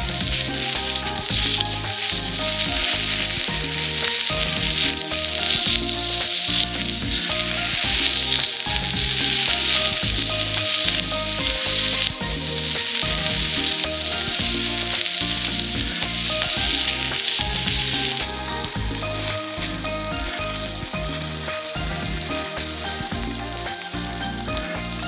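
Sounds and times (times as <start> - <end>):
background music with low notes: 0.0 - 25.0
food sizzling in a pan: 0.0 - 25.0.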